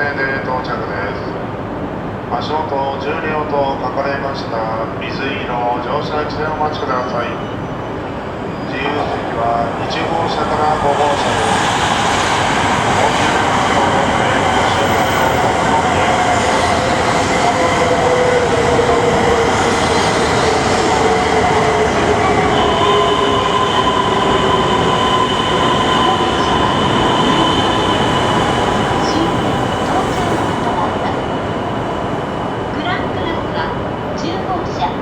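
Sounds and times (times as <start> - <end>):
train braking: 6.8 - 34.9.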